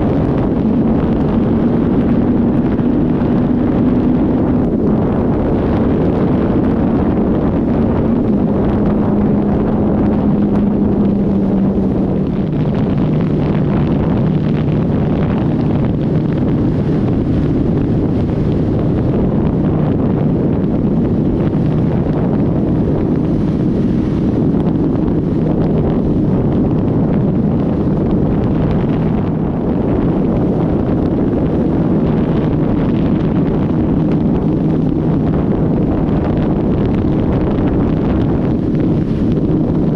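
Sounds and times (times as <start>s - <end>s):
faint motorcycle exhaust hum: 0.0s - 39.9s
wind buffeting microphone: 0.0s - 39.9s.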